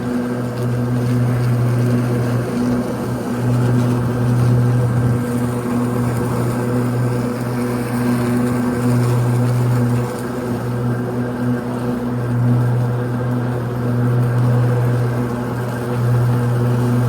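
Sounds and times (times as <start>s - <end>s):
electric mower motor hum: 0.0s - 17.0s
mower blades cutting grass: 0.0s - 17.0s.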